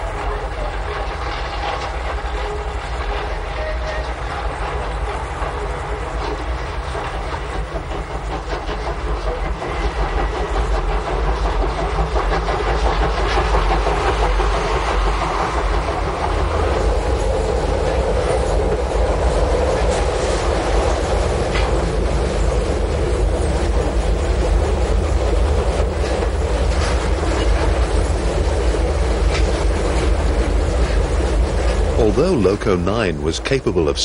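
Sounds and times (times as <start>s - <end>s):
train rumbling: 0.0s - 34.0s
train wheels clicking on rails: 0.0s - 34.0s.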